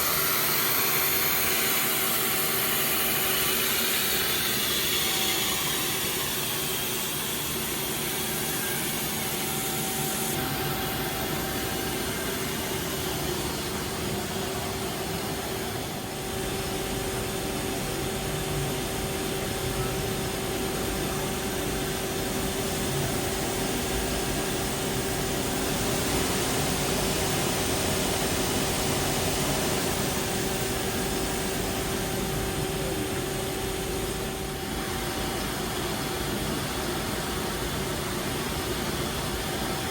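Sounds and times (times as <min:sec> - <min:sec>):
lathe machine hum with whine: 0:00.0 - 0:39.9.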